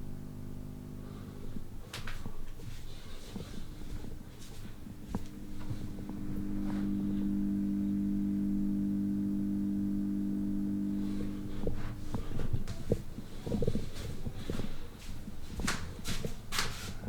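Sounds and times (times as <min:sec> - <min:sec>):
ceiling light electrical buzz: 0:00.0 - 0:17.0.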